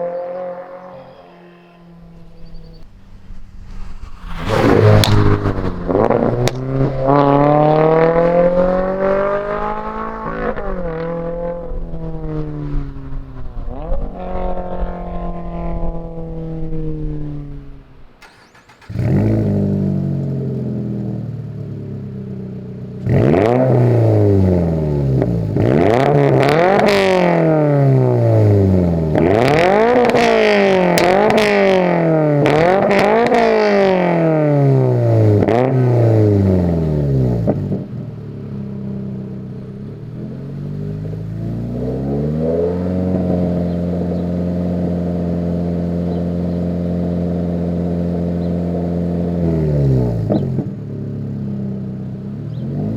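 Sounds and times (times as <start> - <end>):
car engine revving: 1.9 - 52.9.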